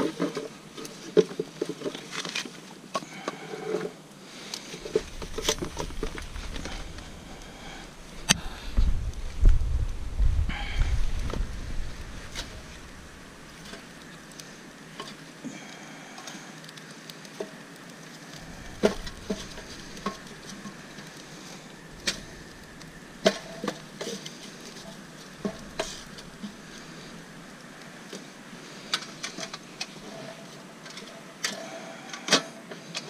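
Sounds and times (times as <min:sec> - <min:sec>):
faint fire hiss: 0:00.0 - 0:33.0
wood fire crackling: 0:00.0 - 0:33.0.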